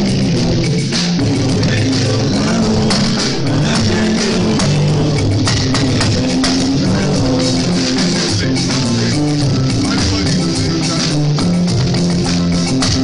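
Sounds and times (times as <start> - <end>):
drum kit with cymbals: 0.0 - 13.0.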